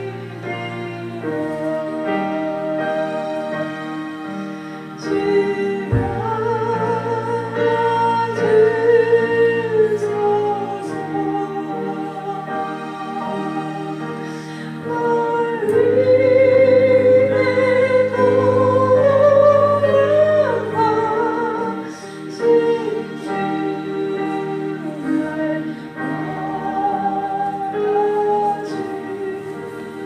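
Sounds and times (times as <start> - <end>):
slow church worship music: 0.0 - 30.0.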